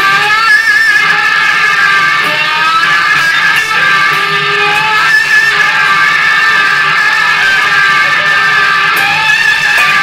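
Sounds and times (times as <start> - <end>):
electric guitar playing: 0.0 - 10.0.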